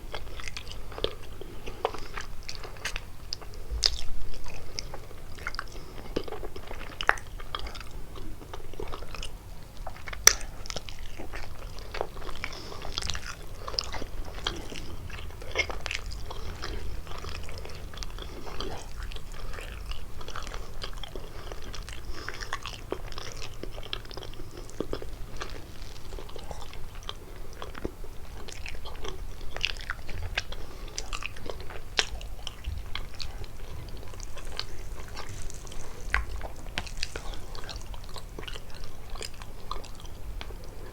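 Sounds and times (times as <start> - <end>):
chewing pastry: 0.0 - 40.9.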